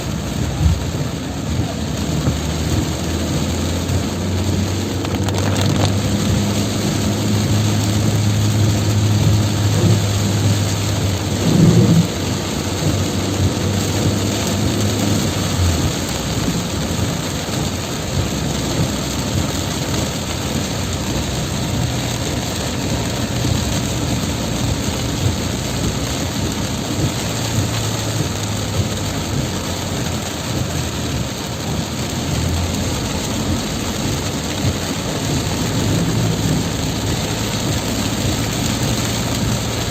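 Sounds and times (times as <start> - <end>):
heavy rain pouring: 0.0 - 39.9
vehicle engine hum: 0.0 - 39.9.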